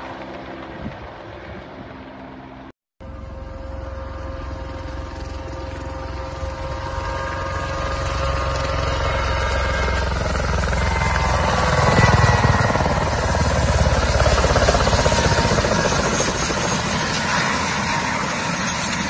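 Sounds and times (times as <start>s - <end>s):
helicopter rotors and turbine whine: 0.0s - 19.0s.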